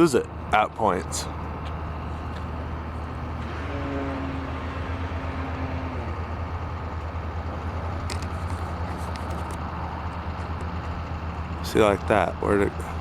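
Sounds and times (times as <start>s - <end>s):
distant model airplane engine droning: 0.0s - 13.0s.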